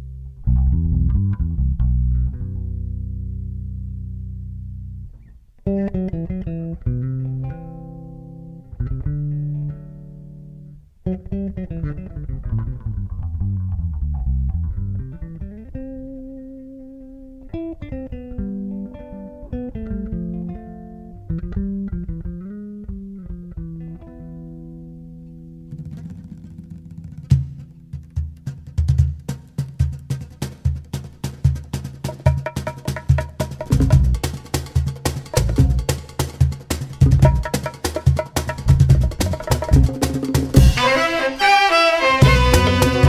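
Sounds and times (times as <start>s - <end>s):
plucked string instrument melody: 0.3s - 29.2s, 32.1s - 43.0s.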